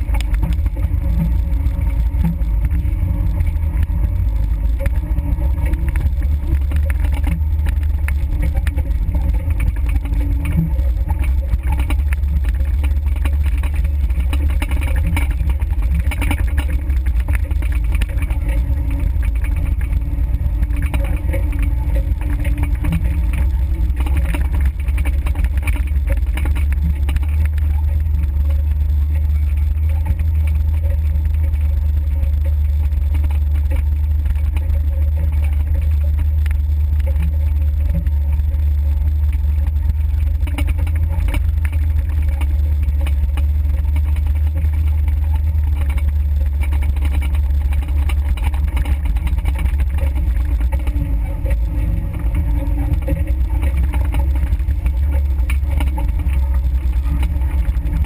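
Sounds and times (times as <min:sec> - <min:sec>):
engine and drivetrain rumble: 0:00.0 - 0:58.0
vehicle rattling and knocking: 0:00.0 - 0:58.0.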